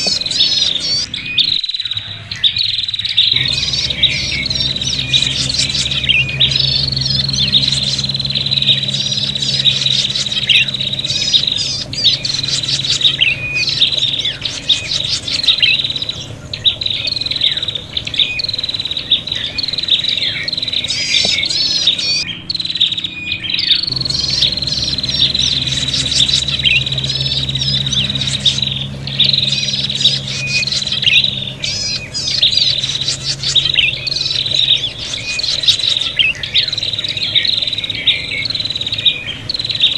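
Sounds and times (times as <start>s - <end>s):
birds chattering and trilling: 0.0s - 39.9s
low hum: 0.0s - 39.9s.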